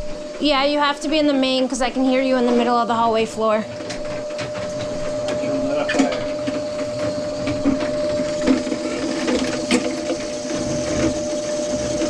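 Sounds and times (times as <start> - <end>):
drain-cleaning machine running: 0.0 - 12.0.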